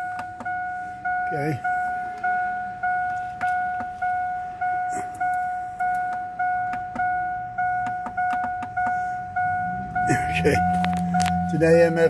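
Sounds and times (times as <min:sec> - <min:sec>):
car warning chime: 0:00.0 - 0:12.0.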